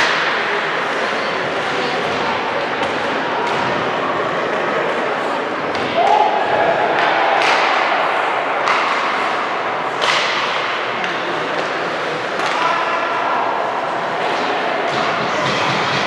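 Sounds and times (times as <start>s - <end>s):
din of players and spectators: 0.0s - 16.0s.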